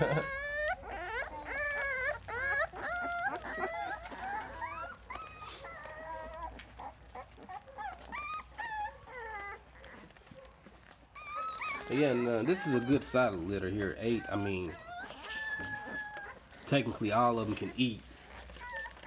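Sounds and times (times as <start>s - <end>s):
puppies whimpering and squeaking: 0.0s - 19.0s.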